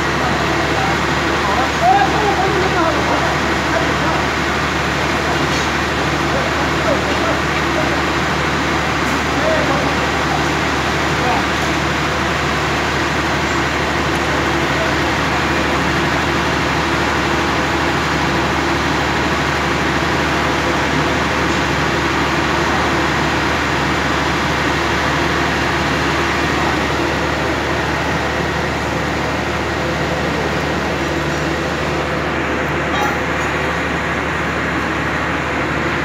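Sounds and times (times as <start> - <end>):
machine drone: 0.0 - 36.0.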